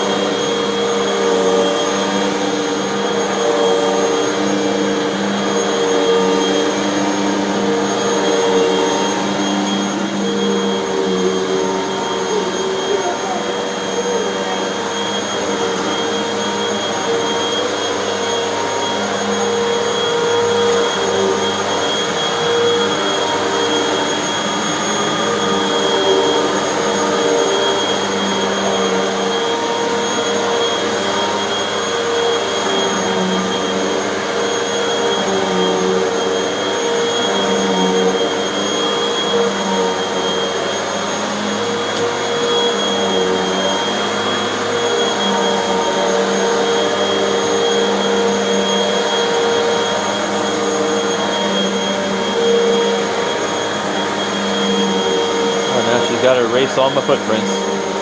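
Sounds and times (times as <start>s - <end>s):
vacuum cleaner on carpet: 0.0s - 58.0s.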